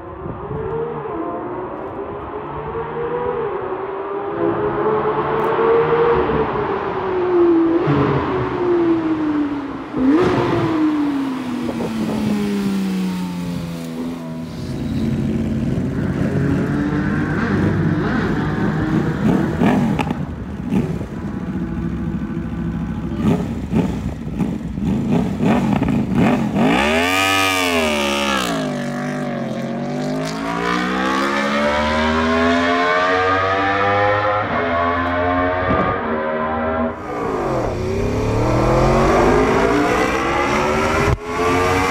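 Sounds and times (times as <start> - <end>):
car and motorcycle engines revving: 0.0 - 41.9.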